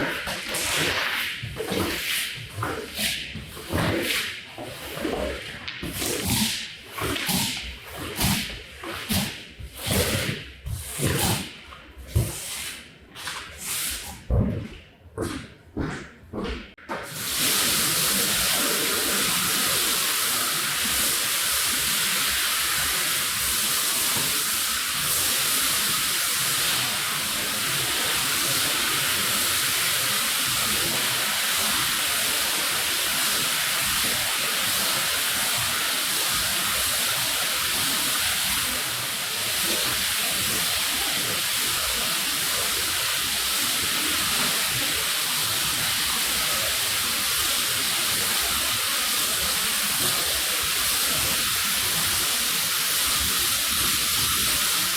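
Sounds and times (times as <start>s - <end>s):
water spray hissing onto rug: 0.0s - 14.3s, 17.1s - 54.9s.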